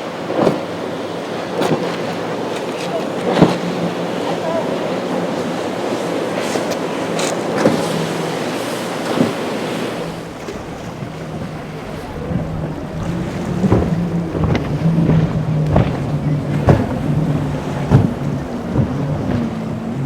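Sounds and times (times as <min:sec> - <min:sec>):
motorboat engine droning: 0:00.0 - 0:20.0
waves washing: 0:00.0 - 0:20.0
sharp water splashes: 0:00.1 - 0:20.0
wind buffeting microphone: 0:01.4 - 0:20.0.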